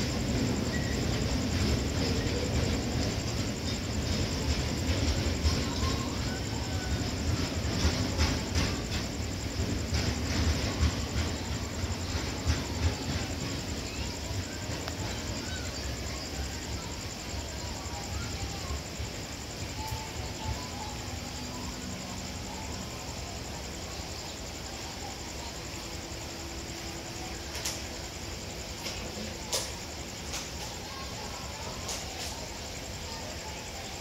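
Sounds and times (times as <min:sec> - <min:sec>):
faint insect chirps: 0:00.0 - 0:34.0
freight train rumbling: 0:00.0 - 0:34.0.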